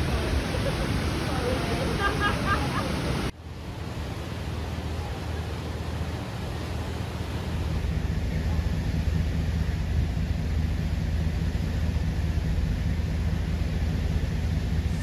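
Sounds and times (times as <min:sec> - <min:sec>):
floodwater rushing in river: 0:00.0 - 0:15.0.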